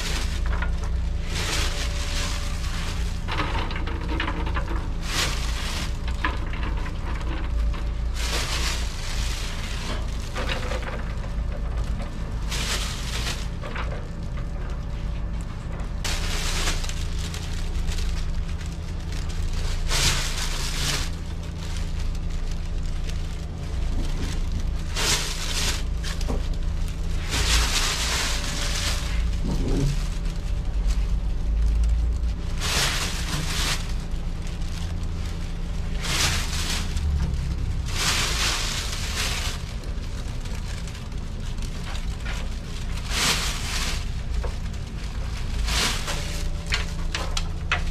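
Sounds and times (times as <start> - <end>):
beans scattered onto metal trays: 0.0 - 47.9
machinery low hum: 0.0 - 47.9.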